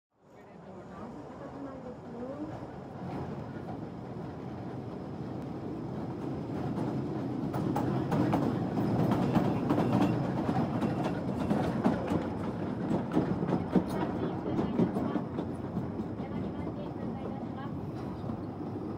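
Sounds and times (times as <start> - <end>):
train rumbling on track: 0.2 - 18.9.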